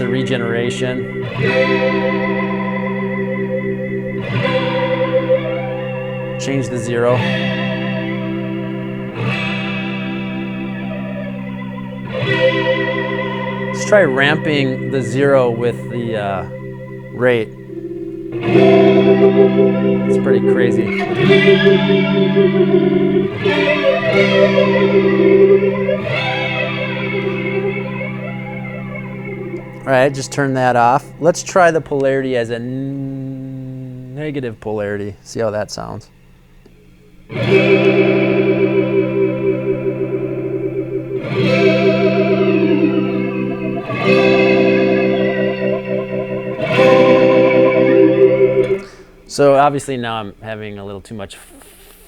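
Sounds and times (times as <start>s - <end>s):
electric guitar chords with flanger: 0.0s - 34.6s, 36.1s - 49.3s.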